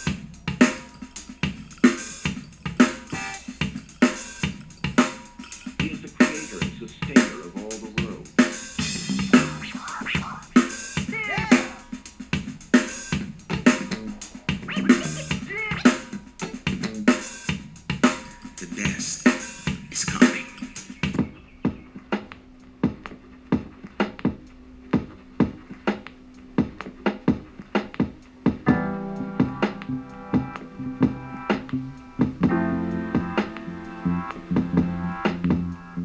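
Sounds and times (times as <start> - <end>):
drum-heavy music over speaker: 0.0 - 36.0.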